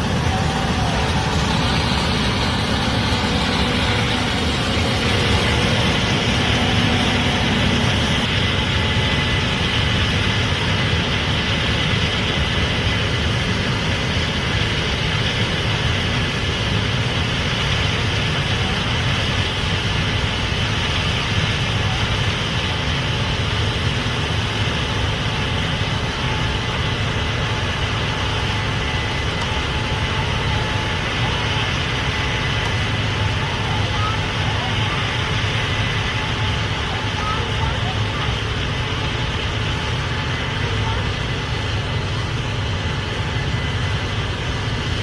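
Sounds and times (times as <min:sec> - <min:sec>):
combine harvester running: 0:00.0 - 0:45.0
faint steady whine: 0:00.0 - 0:45.0.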